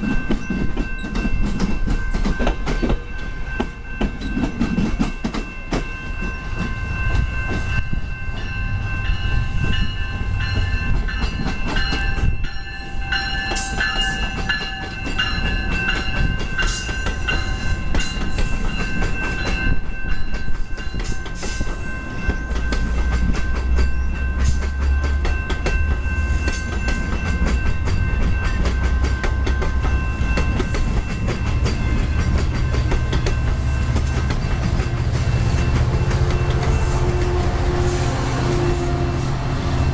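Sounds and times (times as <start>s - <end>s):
high ringing tones: 0.0s - 39.9s
train wheels clattering on track: 0.0s - 39.9s.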